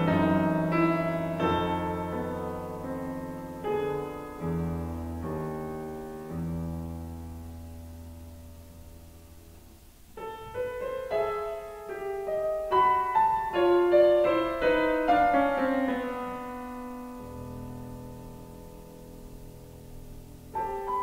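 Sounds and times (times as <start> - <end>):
grand piano playing: 0.0 - 21.0.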